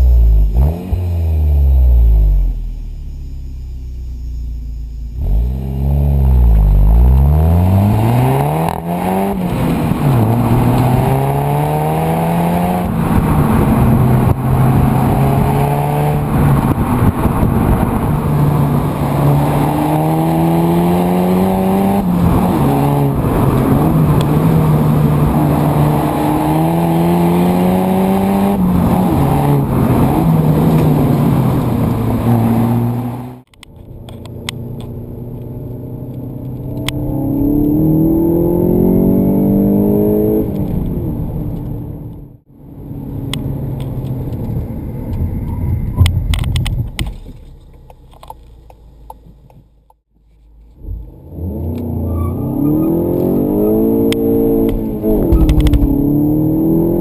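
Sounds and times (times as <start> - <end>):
car engine revving: 0.0 - 47.0, 50.6 - 57.0.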